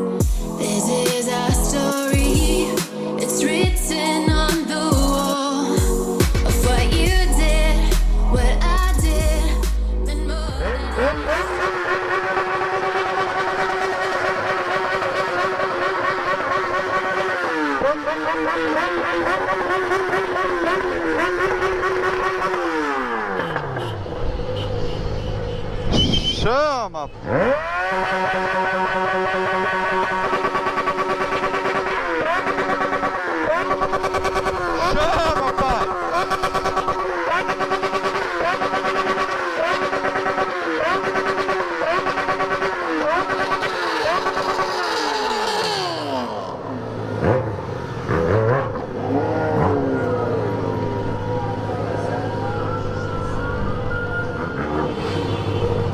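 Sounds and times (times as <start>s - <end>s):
loud motorcycle engine revving: 6.5s - 24.6s, 27.2s - 55.9s.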